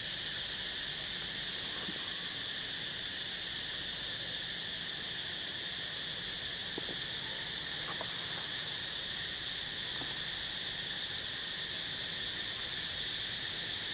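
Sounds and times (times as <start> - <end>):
insect chorus drone: 0.0 - 13.9.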